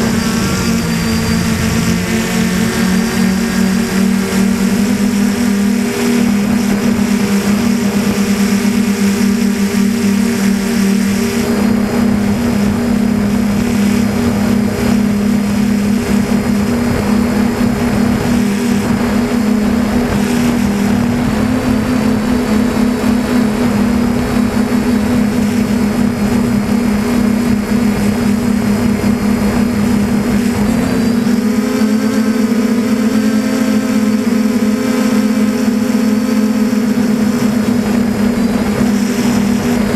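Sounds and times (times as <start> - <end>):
drone motors and propellers buzzing: 0.0 - 39.9.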